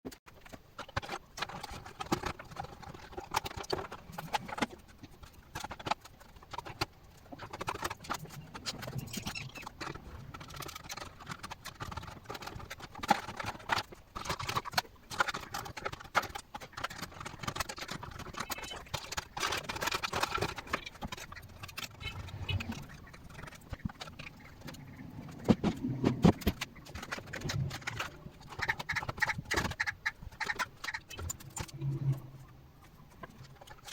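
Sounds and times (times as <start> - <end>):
computer parts and screws clattering: 0.3 - 32.2.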